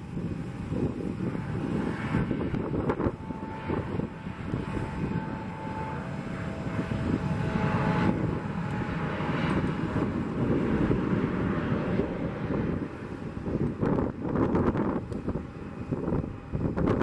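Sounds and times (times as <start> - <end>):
faint jet engine whine: 0.0 - 17.0
jet engines rumbling: 0.0 - 17.0.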